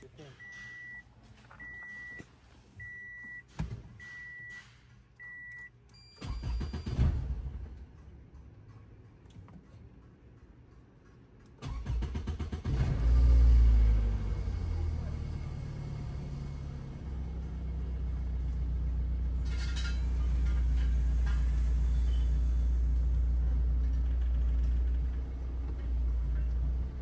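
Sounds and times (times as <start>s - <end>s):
car engine starting and idling: 0.0s - 27.0s.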